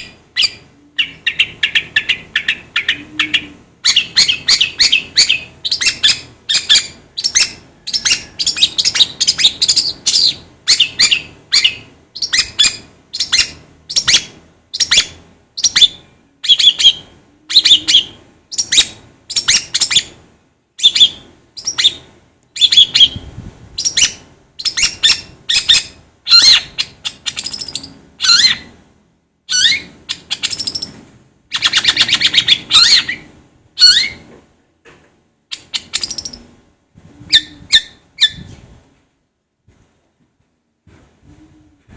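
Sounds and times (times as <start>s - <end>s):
bird chirping: 0.0s - 20.2s, 20.8s - 28.8s, 29.5s - 34.3s, 35.5s - 36.5s, 37.2s - 38.6s.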